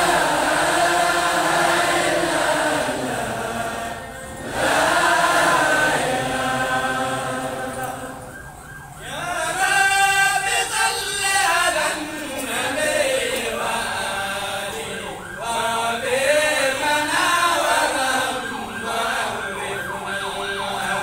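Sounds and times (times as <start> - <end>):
crowd chanting in unison: 0.0 - 8.4, 9.1 - 21.0.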